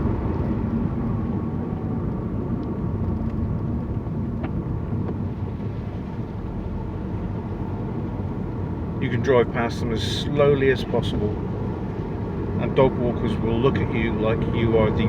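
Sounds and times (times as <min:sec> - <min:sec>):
car engine hum and road rumble: 0:00.0 - 0:15.0.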